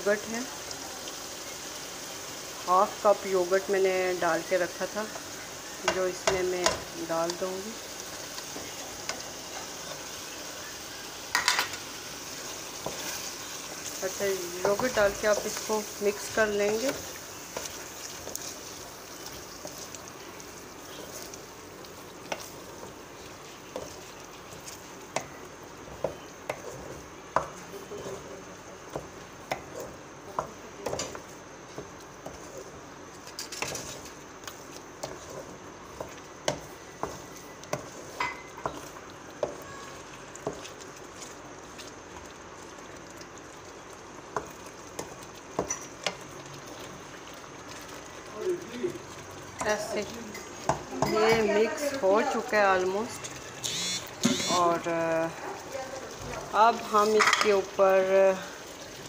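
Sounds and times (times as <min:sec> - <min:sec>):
gravy sizzling: 0:00.0 - 0:59.0.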